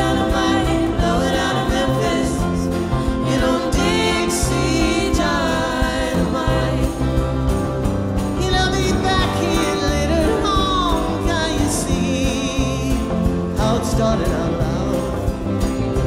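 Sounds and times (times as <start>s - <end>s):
acoustic guitar: 0.0s - 16.0s
drums with cymbals: 0.0s - 16.0s
hand drum: 0.0s - 16.0s
upright bass: 0.0s - 16.0s.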